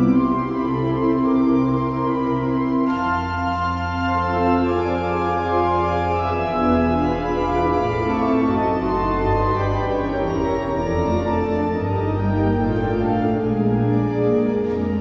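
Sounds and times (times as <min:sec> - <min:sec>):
pipe organ playing slow chords: 0:00.0 - 0:15.0.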